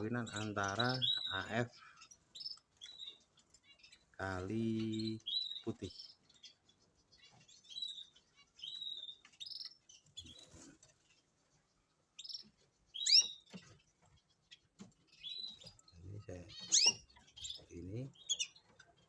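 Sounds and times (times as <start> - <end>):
canaries chirping: 0.0 - 19.0.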